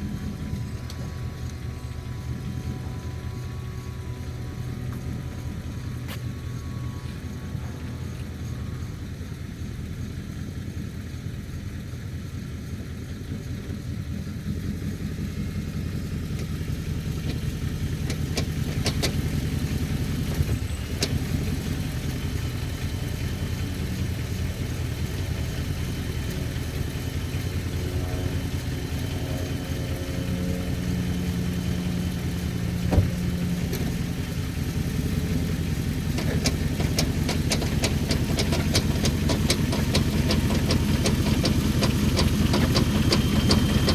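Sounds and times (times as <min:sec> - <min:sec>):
sharp engine clicks: 0:00.0 - 0:11.5, 0:14.9 - 0:43.9
car engine running: 0:00.0 - 0:43.9
quick engine ticks: 0:00.0 - 0:43.9.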